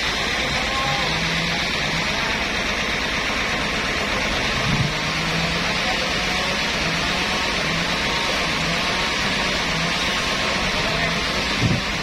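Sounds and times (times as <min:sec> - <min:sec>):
machinery running: 0:00.0 - 0:12.0.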